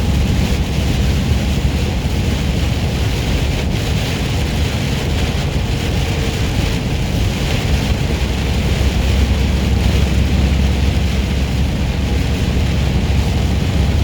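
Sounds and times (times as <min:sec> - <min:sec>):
rain and spray hiss: 0:00.0 - 0:14.0
truck engine and road drone: 0:00.0 - 0:14.0.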